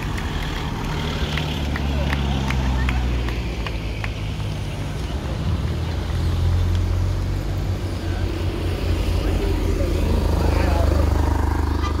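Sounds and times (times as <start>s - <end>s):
car engines rumbling: 0.0s - 12.0s.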